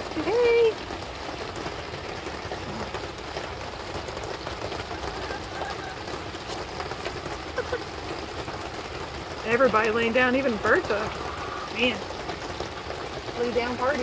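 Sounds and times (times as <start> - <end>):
heavy rain on a tarp roof: 0.0 - 14.0.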